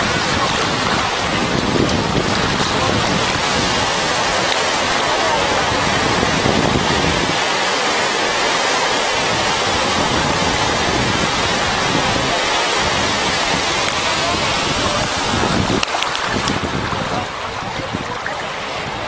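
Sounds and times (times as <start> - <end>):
surf breaking on a beach: 0.0 - 19.0.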